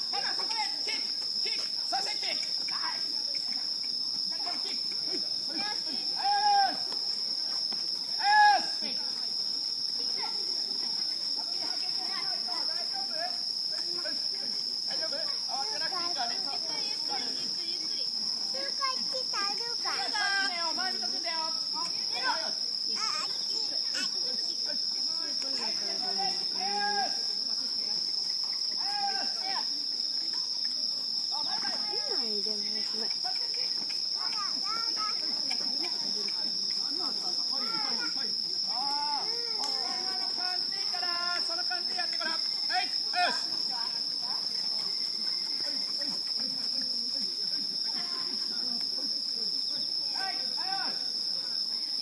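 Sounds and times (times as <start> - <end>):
crickets chirring: 0.0 - 52.0
night insects chorus: 0.0 - 52.0
voices talking: 0.0 - 52.0.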